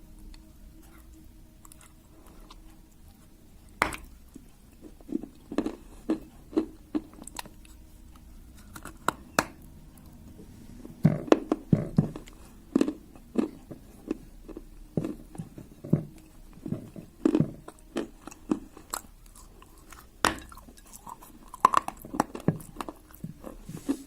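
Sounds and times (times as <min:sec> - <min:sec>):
crunching as clay is chewed: 0:00.0 - 0:24.0.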